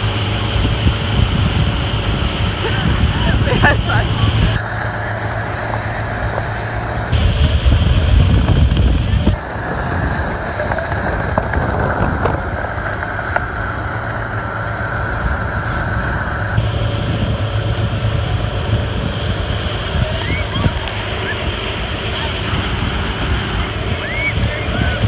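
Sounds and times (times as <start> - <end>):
motorboat engine rumbling: 0.0 - 25.0
wake rushing: 0.0 - 25.0
wind buffeting microphone: 0.0 - 25.0.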